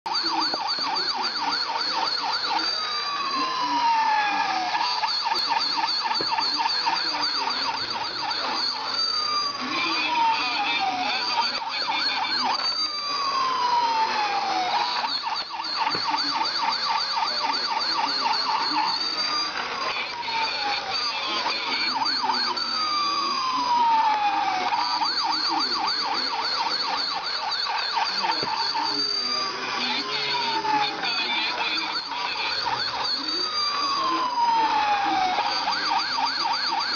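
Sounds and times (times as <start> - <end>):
toy siren warbling wail: 0.1 - 36.9.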